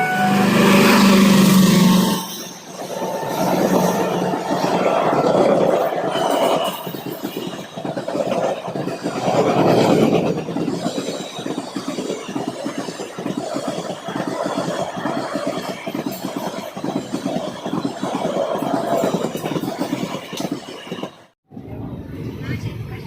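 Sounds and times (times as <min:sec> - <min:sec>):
train wheels rumbling and rattling: 0:00.0 - 0:21.4.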